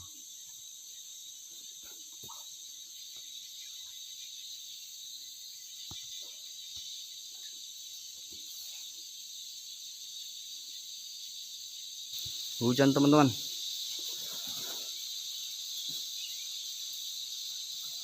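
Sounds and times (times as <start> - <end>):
chorus of forest insects: 0.0 - 18.0.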